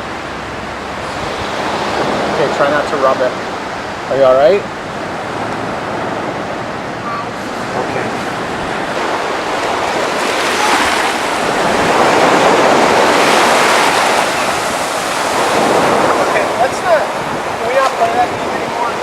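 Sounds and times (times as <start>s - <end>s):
ocean surf washing on beach: 0.0s - 19.0s.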